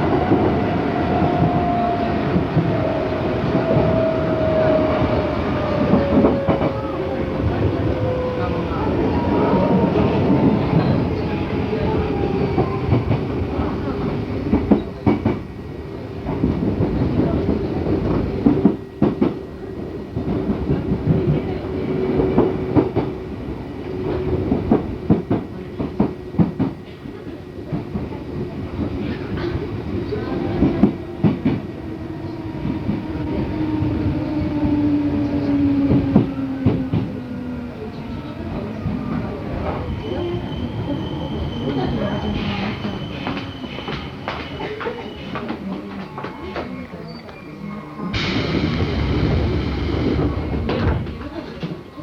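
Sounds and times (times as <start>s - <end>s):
train rumble: 0.0s - 47.3s, 48.0s - 52.0s.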